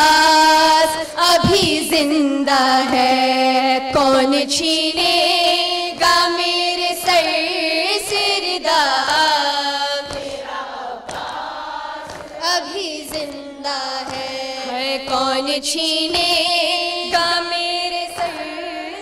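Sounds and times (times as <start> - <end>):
women chanting in unison: 0.0 - 19.0.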